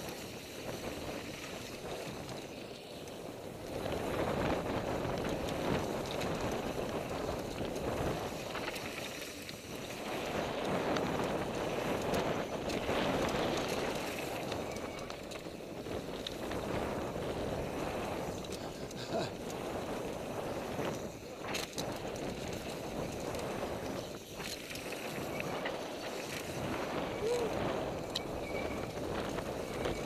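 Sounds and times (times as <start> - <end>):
bike rattling: 0.0 - 30.0
tyres rushing on loose dirt: 0.0 - 30.0
wind buffeting microphone: 0.0 - 30.0.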